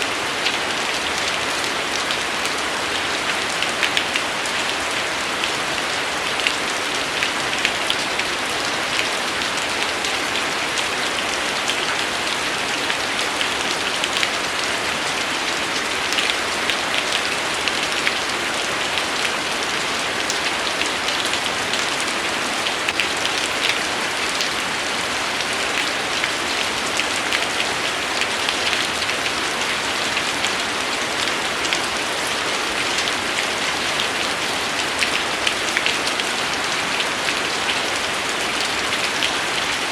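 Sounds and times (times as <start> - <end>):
rain falling: 0.0 - 39.9
raindrops ticking: 0.4 - 2.6, 5.4 - 11.9, 12.9 - 18.3, 20.2 - 39.9.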